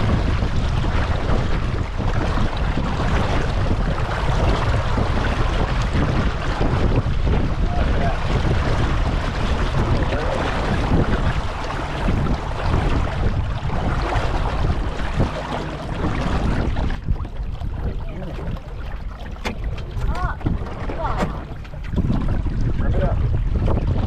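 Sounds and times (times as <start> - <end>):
water splashing against boat hull: 0.0 - 24.0
wind rumbling on microphone: 0.0 - 24.0.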